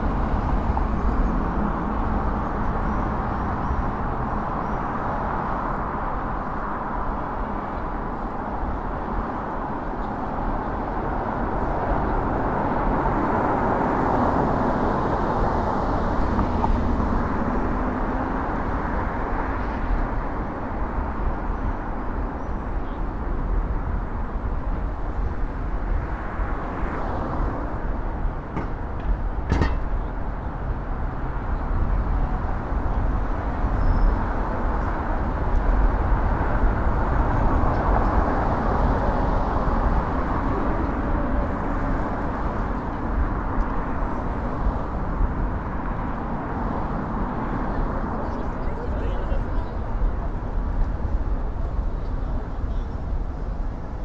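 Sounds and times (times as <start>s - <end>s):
car traffic: 0.0s - 54.0s
road noise from bicycle: 0.0s - 54.0s.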